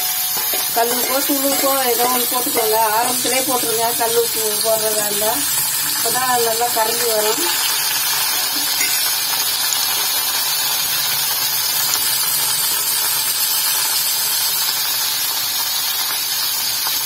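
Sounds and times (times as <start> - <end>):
slices sizzling in hot oil: 0.0 - 17.0.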